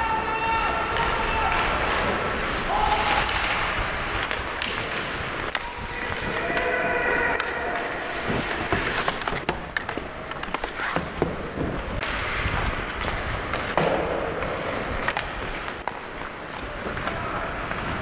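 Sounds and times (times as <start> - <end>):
sticks and pucks clacking: 0.3 - 18.0
skate blades scraping on ice: 0.8 - 18.0.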